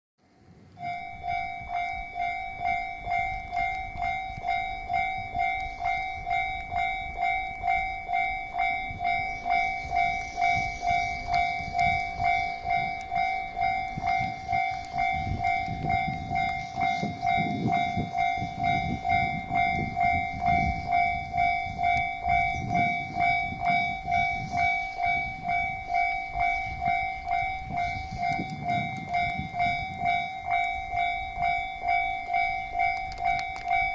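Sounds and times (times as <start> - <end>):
railcar engine and wheels rumbling: 0.2 - 33.9
level crossing warning bell ringing: 0.7 - 33.9.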